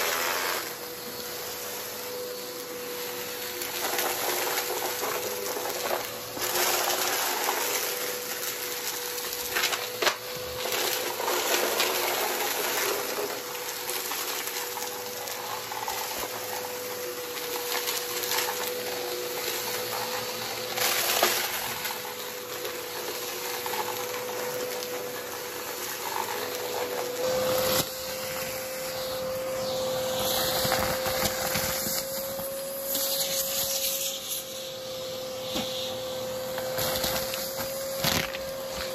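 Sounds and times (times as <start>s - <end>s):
vacuum cleaner motor whine: 0.0s - 38.9s
debris crackling in vacuum: 2.6s - 34.5s, 35.4s - 38.9s.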